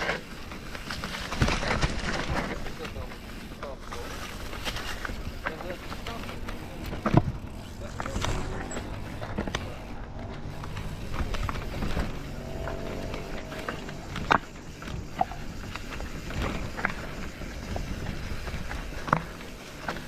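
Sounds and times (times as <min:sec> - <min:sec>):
steady rushing noise: 0:00.0 - 0:20.0
vehicle rattling over rough ground: 0:00.0 - 0:20.0.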